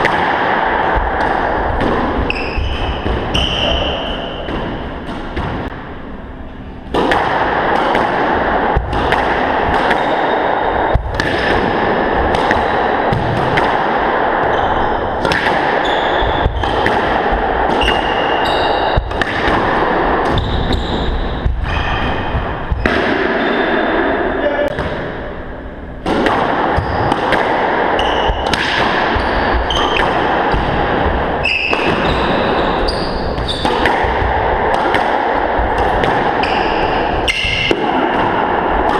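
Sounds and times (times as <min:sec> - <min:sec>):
steady rushing noise: 0:00.0 - 0:03.3, 0:07.1 - 0:24.4, 0:25.0 - 0:38.9
squash ball cracking off rackets: 0:00.0 - 0:05.9, 0:06.9 - 0:23.4, 0:24.7 - 0:38.9.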